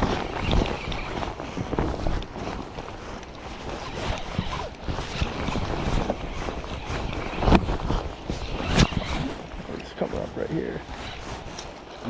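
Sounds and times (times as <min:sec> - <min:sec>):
jacket sleeve rustling: 0:00.0 - 0:12.0.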